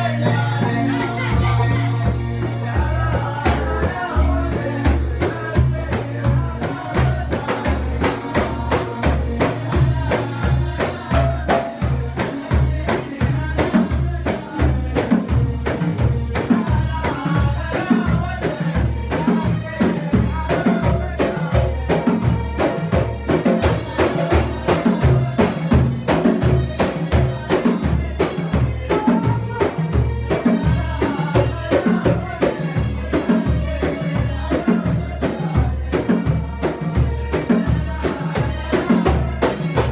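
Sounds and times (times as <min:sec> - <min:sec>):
frame drums beating: 0:00.0 - 0:39.9
group singing: 0:00.0 - 0:39.9.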